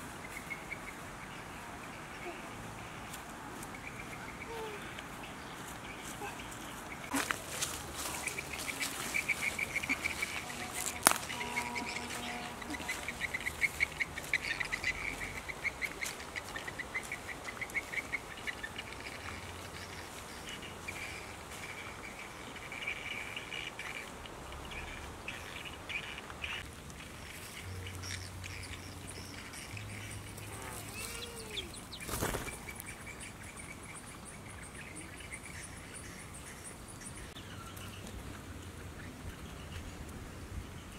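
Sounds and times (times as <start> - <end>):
birds chattering trills: 0.2 - 38.1.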